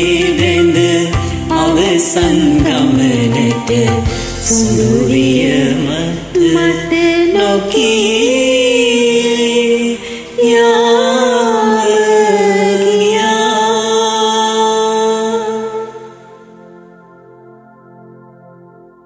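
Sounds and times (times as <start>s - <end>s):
man and woman singing duet: 0.0s - 16.3s
karaoke backing track: 0.0s - 17.3s.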